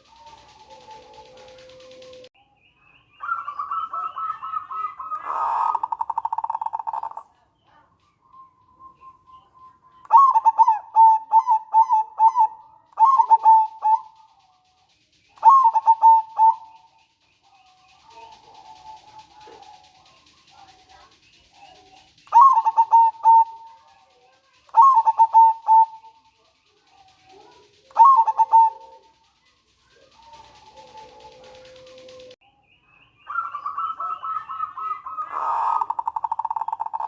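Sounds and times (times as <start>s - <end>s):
dove calling: 0.0s - 32.4s, 33.0s - 37.0s.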